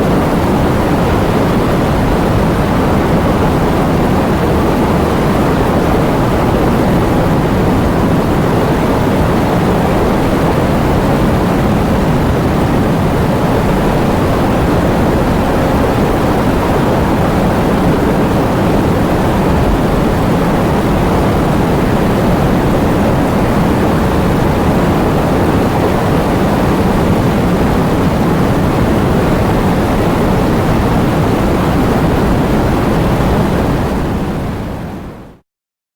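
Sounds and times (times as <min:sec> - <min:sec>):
heavy rain: 0:00.0 - 0:34.9
strong wind: 0:00.0 - 0:35.4.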